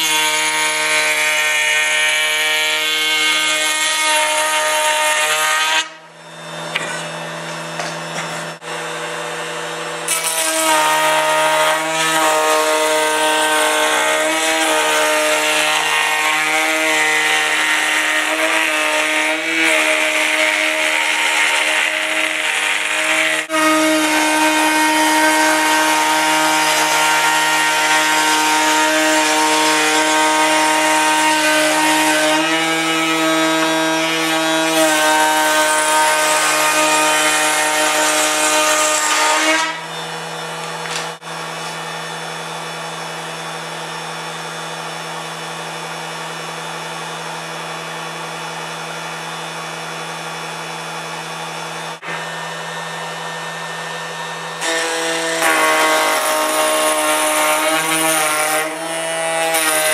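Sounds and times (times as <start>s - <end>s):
power tool cutting wood: 0.0s - 59.9s.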